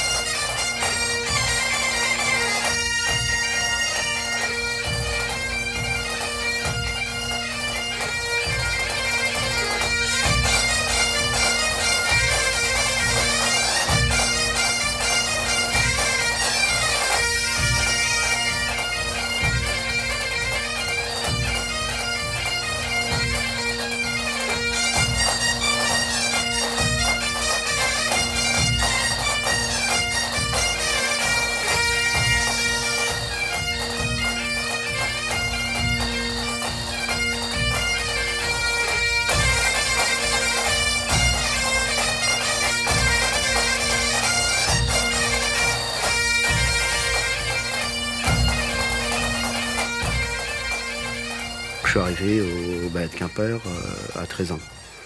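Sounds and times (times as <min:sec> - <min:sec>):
bagpipes with drone: 0:00.0 - 0:55.0
drum beats: 0:04.2 - 0:22.4, 0:24.4 - 0:54.8.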